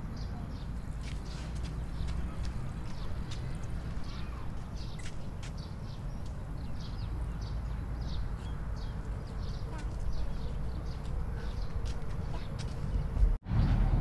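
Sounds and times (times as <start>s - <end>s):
birds chirping: 0.0s - 13.3s
steady low rumble: 0.0s - 14.0s.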